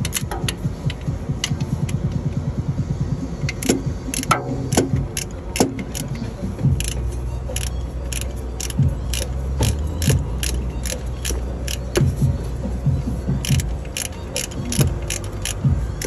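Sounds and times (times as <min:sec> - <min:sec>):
hand ratchet clicking: 0:00.0 - 0:02.4, 0:03.4 - 0:12.3, 0:13.4 - 0:16.0.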